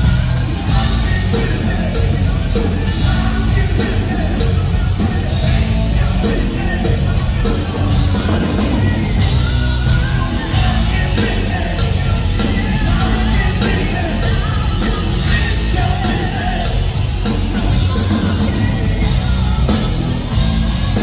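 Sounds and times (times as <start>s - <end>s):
bass guitar: 0.0s - 21.0s
drums: 0.0s - 21.0s
electric guitars: 0.0s - 21.0s
person singing: 0.0s - 21.0s.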